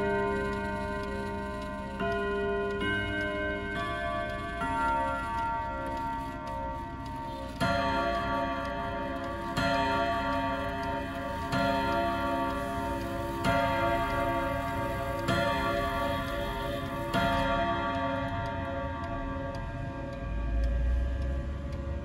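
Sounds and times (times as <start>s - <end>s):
clock gong rods striking: 0.0s - 21.1s
clock ticking: 0.0s - 22.0s.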